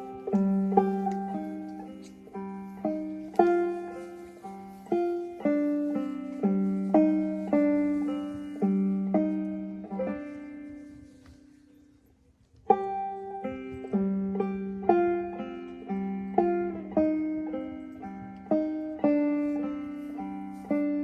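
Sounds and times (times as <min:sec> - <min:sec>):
brisk clawhammer banjo: 0:00.0 - 0:11.4, 0:12.6 - 0:21.0
banjo plucked slowly: 0:00.0 - 0:21.0.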